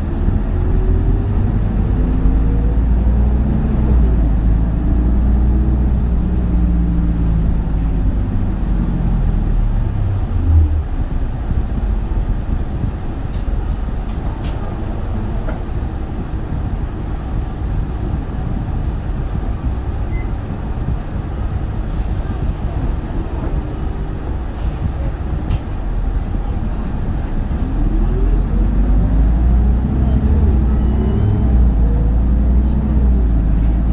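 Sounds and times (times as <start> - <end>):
diesel bus engine rumble: 0.0 - 33.9
road noise: 0.0 - 33.9.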